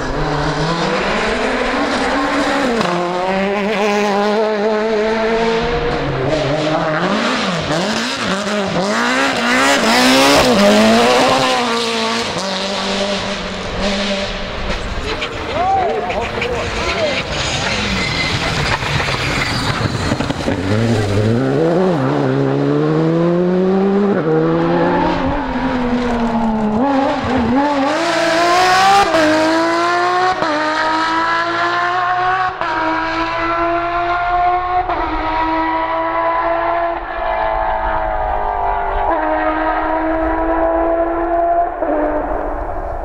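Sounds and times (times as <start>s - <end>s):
rally car engine accelerating: 0.0s - 43.0s.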